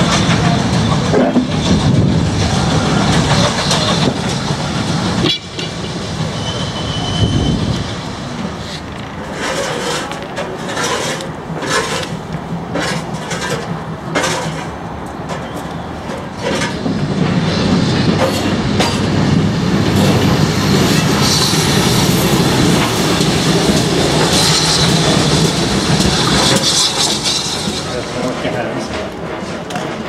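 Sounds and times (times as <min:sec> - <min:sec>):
wheels clattering over rail joints: 0:00.0 - 0:07.2, 0:07.8 - 0:30.0
steam train rumble: 0:00.0 - 0:30.0.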